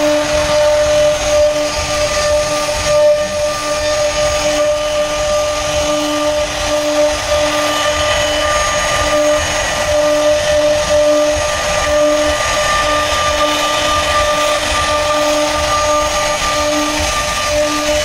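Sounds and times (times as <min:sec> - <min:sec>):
electric power tool motor whining: 0:00.0 - 0:18.0
low pulsing hum: 0:00.0 - 0:18.0.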